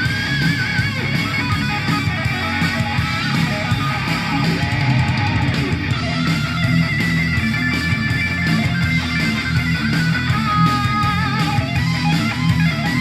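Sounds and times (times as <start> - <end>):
heavy rock music: 0.0 - 13.0
wavering lead guitar: 0.0 - 13.0.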